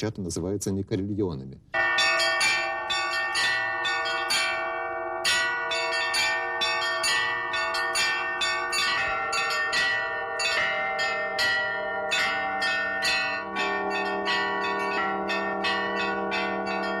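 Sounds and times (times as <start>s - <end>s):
carillon bells playing melody: 1.8s - 17.0s.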